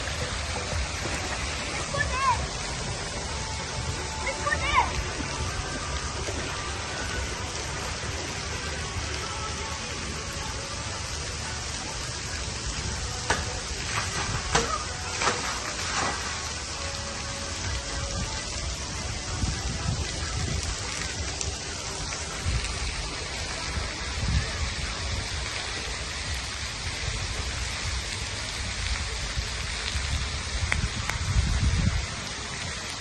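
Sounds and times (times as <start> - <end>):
low rumble gusts: 0.0 - 33.0
water spraying on wet concrete: 0.0 - 33.0.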